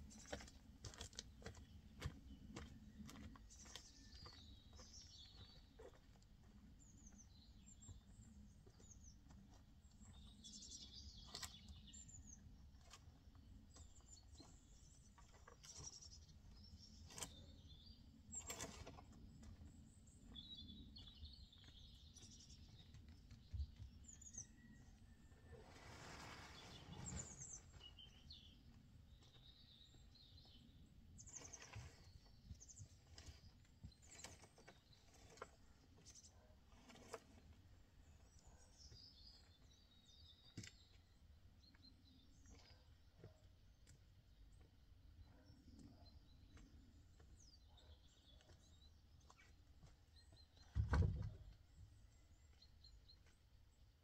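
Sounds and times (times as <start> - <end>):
birds chirping: 0.0 - 25.2, 26.4 - 53.8.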